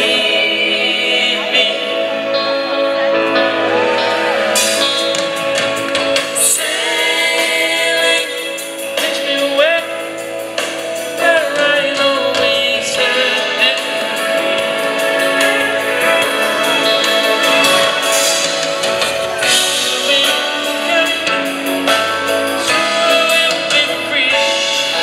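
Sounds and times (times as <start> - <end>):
man singing: 0.0 - 3.0, 4.3 - 25.0
live soft rock band: 0.0 - 25.0.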